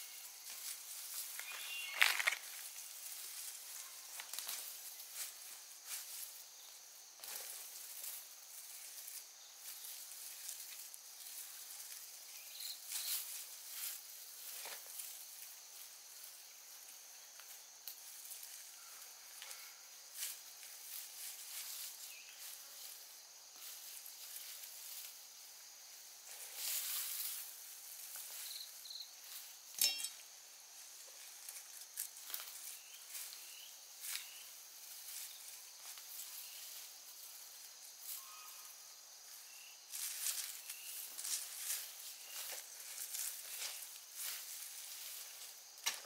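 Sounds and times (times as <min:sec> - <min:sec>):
faint insect hum: 0:00.0 - 0:46.0
rustling of leafy stems: 0:00.0 - 0:46.0.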